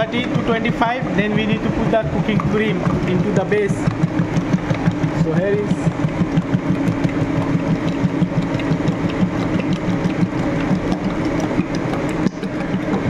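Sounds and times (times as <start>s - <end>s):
machine motor humming and pulsing: 0.0s - 13.0s.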